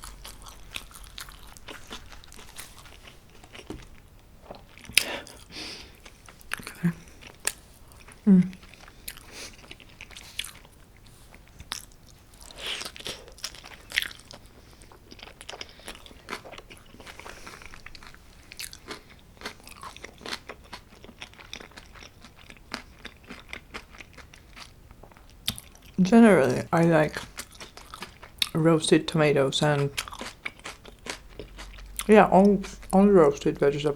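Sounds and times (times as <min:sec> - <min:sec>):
person chewing crunchy pizza: 0:00.0 - 0:26.0, 0:27.0 - 0:28.6, 0:29.8 - 0:33.1.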